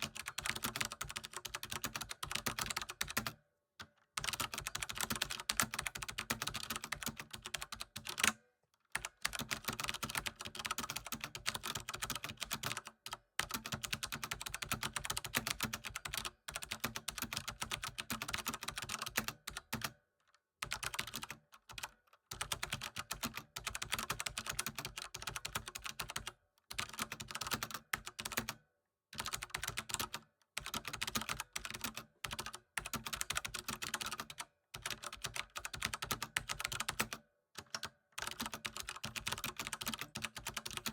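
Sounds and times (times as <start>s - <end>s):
typing on computer keyboard: 0.0s - 20.0s, 20.6s - 28.6s, 29.2s - 40.9s.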